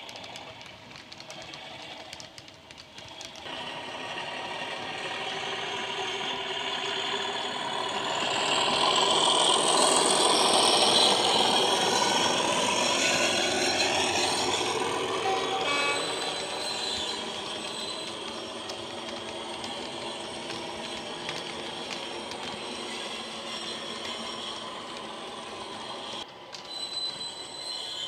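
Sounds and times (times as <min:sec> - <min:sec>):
model wagons rumbling on track: 0:00.0 - 0:26.8
wheels clicking on track: 0:00.0 - 0:27.9
model locomotive engine sound: 0:00.0 - 0:28.0.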